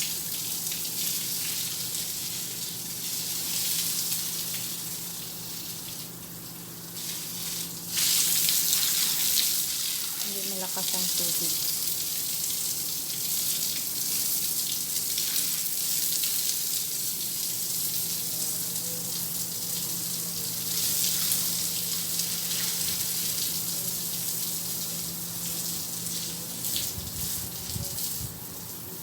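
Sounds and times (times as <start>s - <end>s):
garden hose spraying water: 0.0s - 29.0s.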